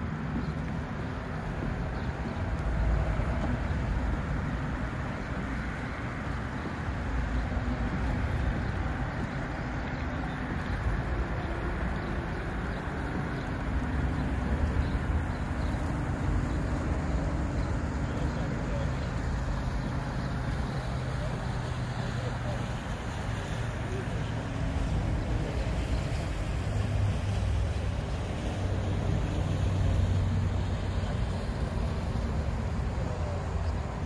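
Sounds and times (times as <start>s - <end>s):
outboard motors droning: 0.0s - 34.0s.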